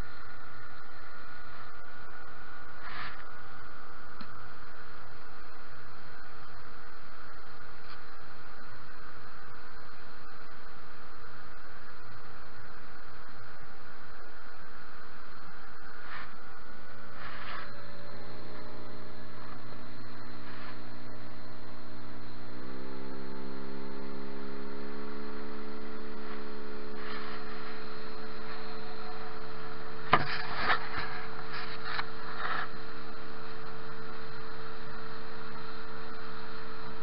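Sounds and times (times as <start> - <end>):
outboard motor droning: 0.0 - 37.0.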